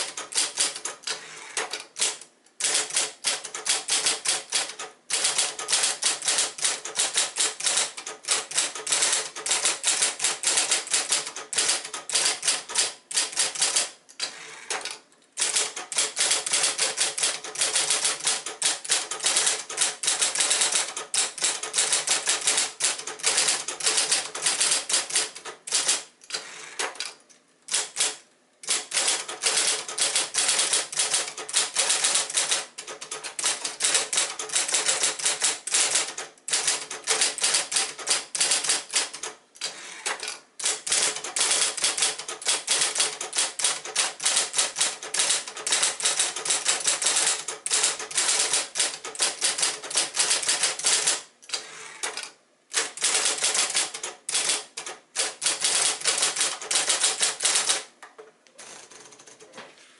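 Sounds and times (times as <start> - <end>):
electric typewriter typing: 0.0 - 57.9, 58.6 - 59.5.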